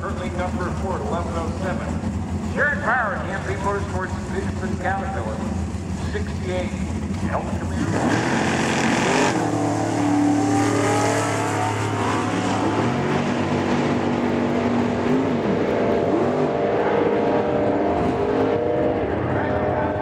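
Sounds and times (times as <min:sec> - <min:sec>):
drag racing cars accelerating: 0:00.0 - 0:20.0.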